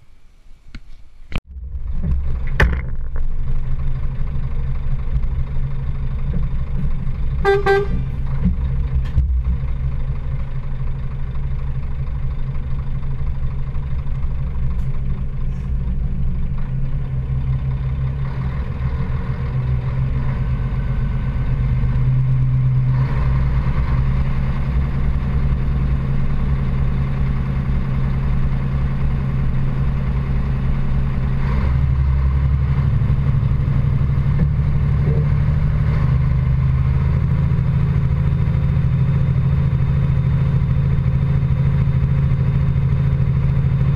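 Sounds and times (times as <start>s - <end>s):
diesel engine running: 1.2s - 43.9s.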